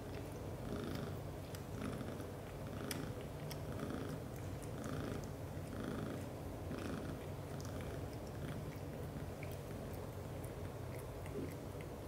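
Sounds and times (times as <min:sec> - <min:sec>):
cats purring: 0:00.0 - 0:12.0.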